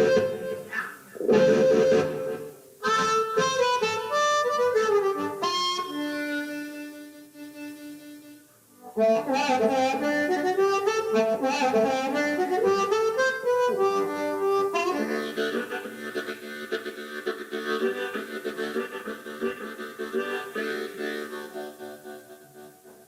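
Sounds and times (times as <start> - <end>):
blues band playing: 0.0 - 22.7.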